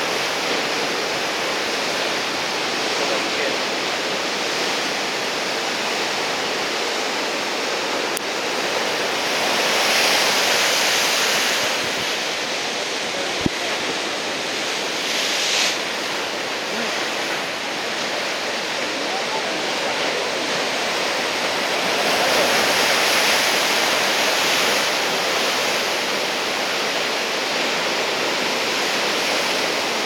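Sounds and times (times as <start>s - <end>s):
surf breaking on shore: 0.0s - 30.0s.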